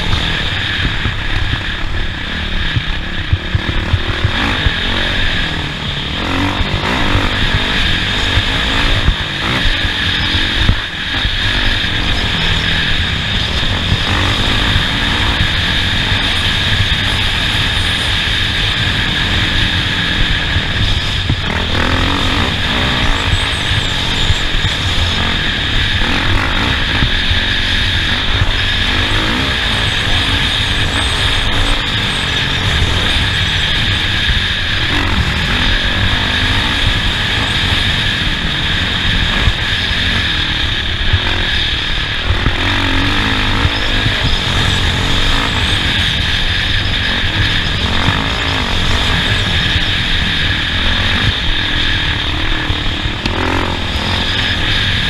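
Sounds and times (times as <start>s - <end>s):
race vehicle engine: 0.0s - 55.0s
road noise: 0.0s - 55.0s.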